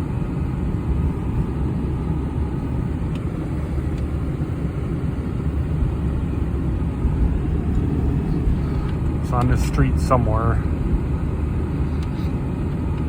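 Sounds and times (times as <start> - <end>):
truck engine rumble: 0.0 - 13.0.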